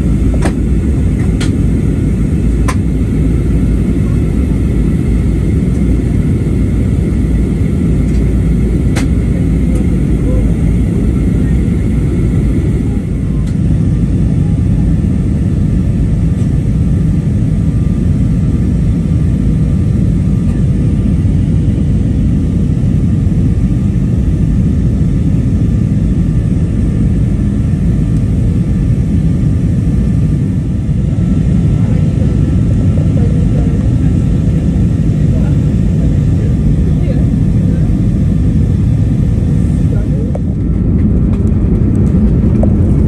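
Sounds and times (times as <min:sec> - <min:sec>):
jet airliner cabin roar: 0:00.0 - 0:43.0.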